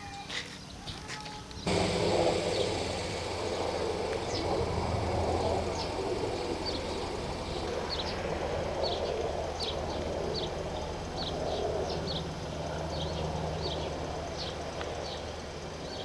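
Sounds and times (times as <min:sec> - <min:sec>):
small birds chirping: 0:00.0 - 0:16.0
low engine drone: 0:01.6 - 0:16.0.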